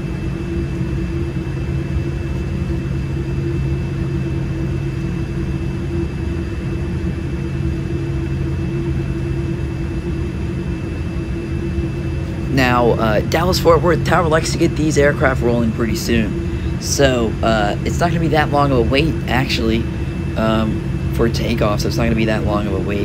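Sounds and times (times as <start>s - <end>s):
aircraft cabin hum: 0.0s - 23.0s
faint high whine: 0.0s - 23.0s.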